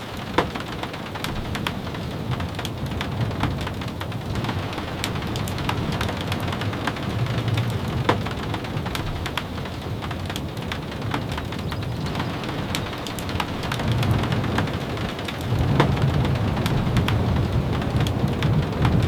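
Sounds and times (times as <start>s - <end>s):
raindrops tapping: 0.0s - 19.0s
steady rain: 0.0s - 19.0s.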